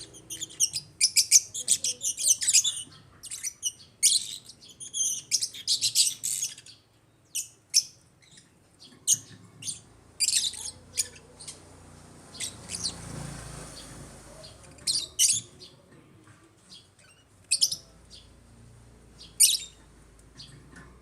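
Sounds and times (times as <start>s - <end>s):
lovebirds chirping and squawking: 0.0s - 16.0s, 16.6s - 21.0s.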